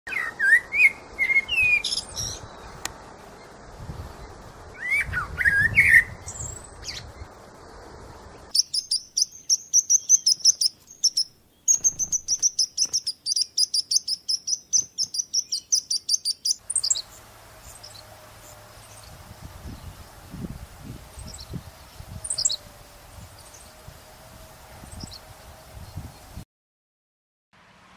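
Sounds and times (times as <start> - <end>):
birds chirping: 0.1 - 26.4
steady background hiss: 0.1 - 26.4.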